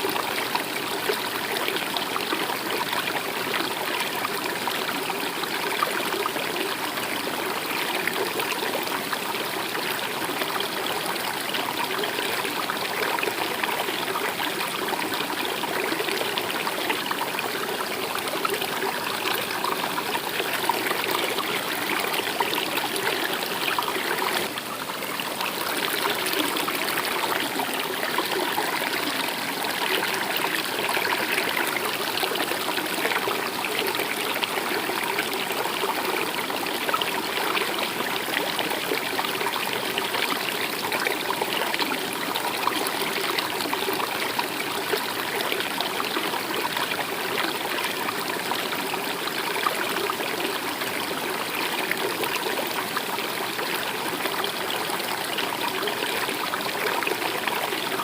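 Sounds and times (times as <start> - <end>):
stream trickling and babbling: 0.0 - 58.0.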